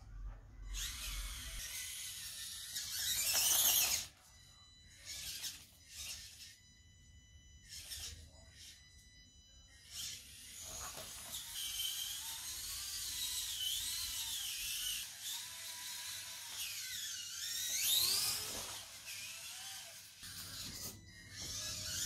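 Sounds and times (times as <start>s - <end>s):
small electric motor whining: 0.1s - 22.0s.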